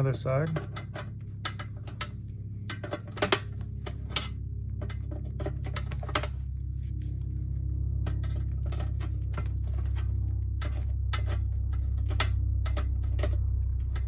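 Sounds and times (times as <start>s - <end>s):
airplane droning overhead: 0.0s - 14.0s.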